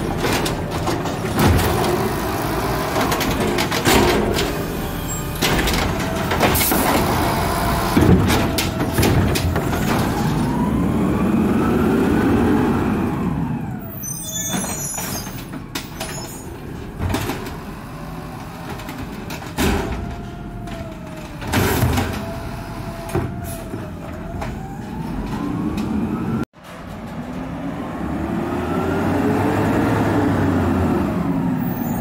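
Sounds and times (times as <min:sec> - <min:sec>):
garbage truck engine running: 0:00.0 - 0:28.4.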